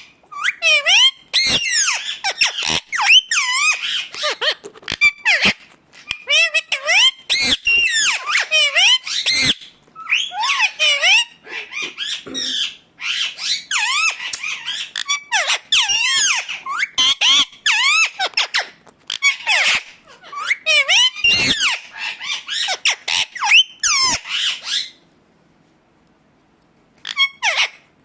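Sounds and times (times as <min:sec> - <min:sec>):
parakeet squawking and whistling: 0:00.0 - 0:25.0, 0:27.0 - 0:27.9.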